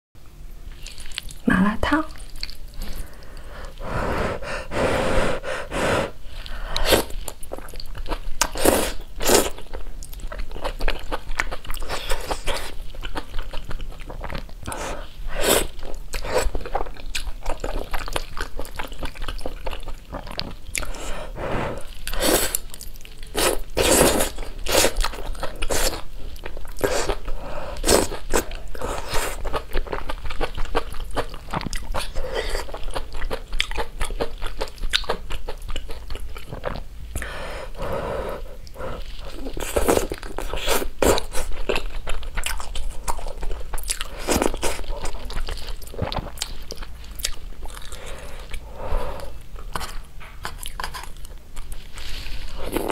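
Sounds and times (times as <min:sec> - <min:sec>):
chewing: 0:00.7 - 0:01.4, 0:02.1 - 0:03.8, 0:06.4 - 0:14.8, 0:15.6 - 0:21.1, 0:21.8 - 0:37.3, 0:38.6 - 0:52.9.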